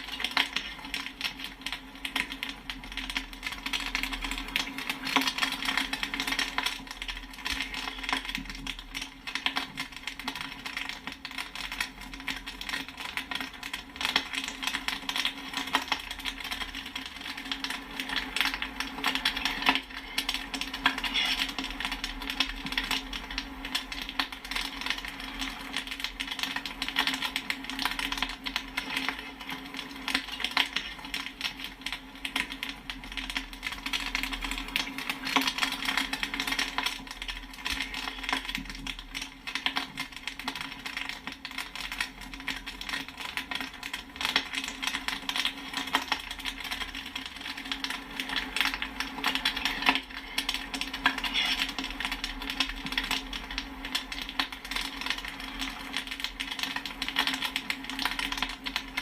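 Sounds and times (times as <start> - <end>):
popcorn popping: 0.0 - 59.0.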